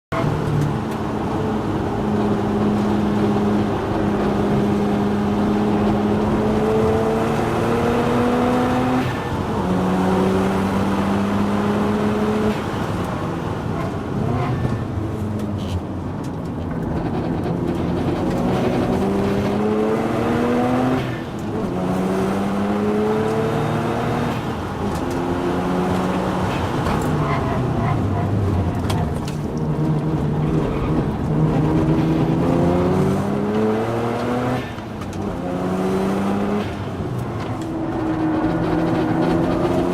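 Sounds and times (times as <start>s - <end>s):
rotary engine accelerating: 0.1s - 12.8s, 16.5s - 39.9s.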